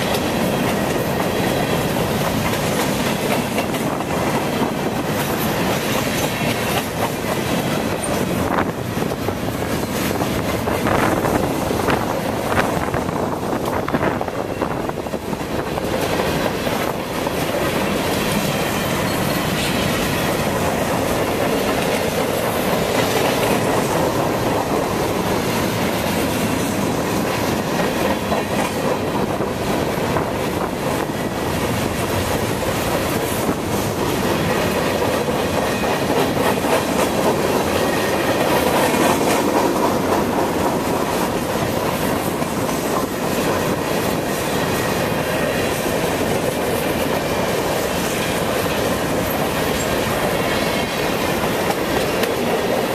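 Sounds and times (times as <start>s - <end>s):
train wheels rumbling on rails: 0.0s - 52.9s
wheels clacking over rail joints: 0.0s - 52.9s.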